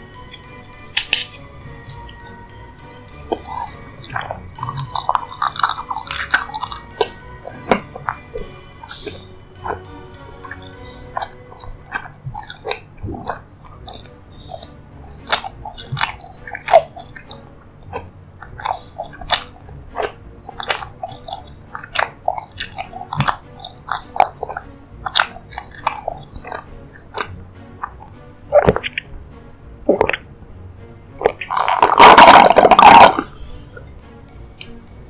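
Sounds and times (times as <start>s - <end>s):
wet chewing and biting smacks: 0.0s - 30.3s, 31.2s - 34.8s.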